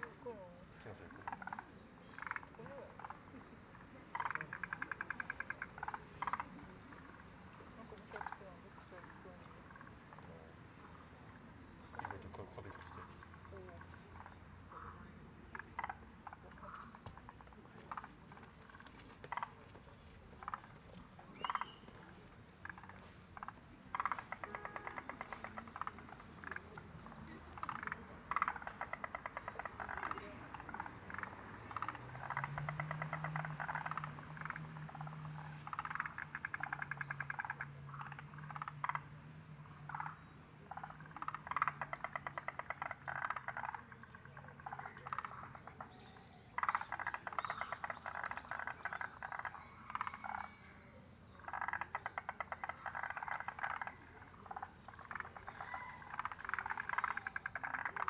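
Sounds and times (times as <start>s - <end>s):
frogs trilling: 0.0s - 58.0s.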